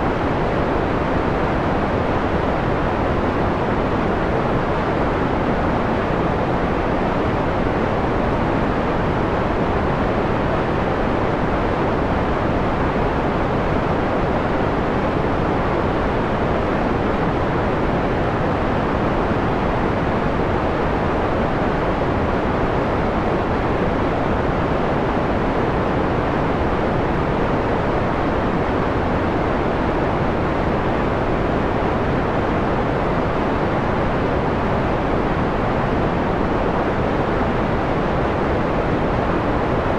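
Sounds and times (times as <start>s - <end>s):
dark filtered white noise: 0.0s - 39.9s.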